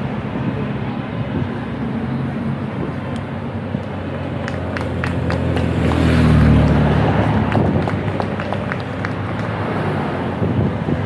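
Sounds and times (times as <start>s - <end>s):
cars driving past: 0.0s - 11.0s
motorcycle passing: 2.0s - 11.0s.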